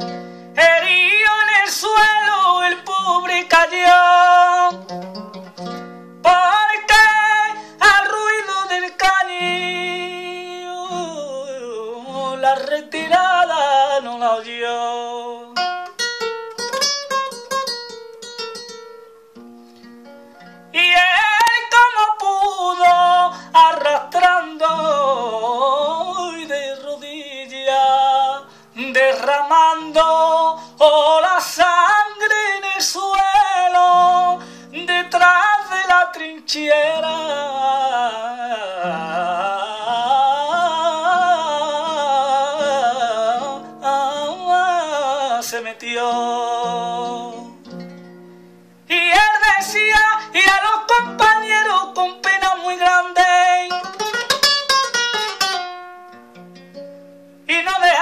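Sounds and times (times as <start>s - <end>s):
man singing: 0.0s - 4.9s, 6.2s - 15.6s, 20.7s - 47.7s, 48.8s - 55.0s, 57.4s - 58.0s
nylon-string guitar: 0.0s - 58.0s.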